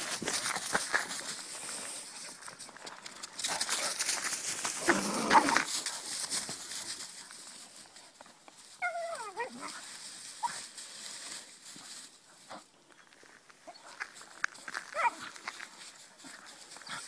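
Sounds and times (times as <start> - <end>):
paws rustling through grass: 0.0 - 17.0.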